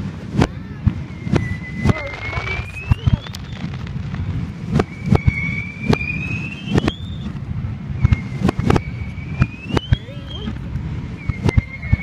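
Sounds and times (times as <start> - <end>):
reversed firework bangs and crackles: 0.0 - 12.0
reversed firework whistles: 0.8 - 12.0.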